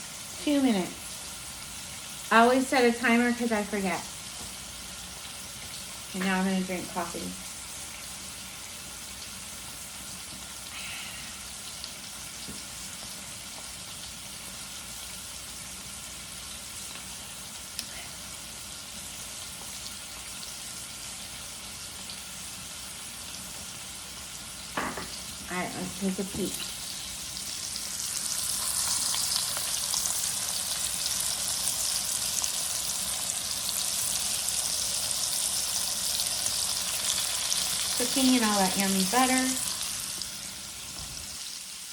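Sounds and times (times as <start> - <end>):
steaks sizzling in a pan: 0.0 - 41.9.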